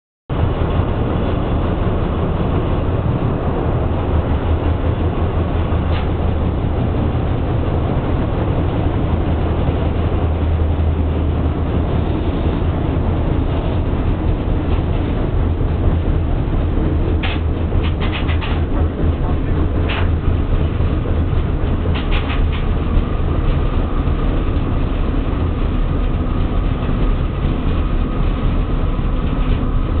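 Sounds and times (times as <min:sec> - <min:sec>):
train rumbling along track: 0:00.3 - 0:30.0
wheels clicking over rail joints: 0:00.6 - 0:30.0.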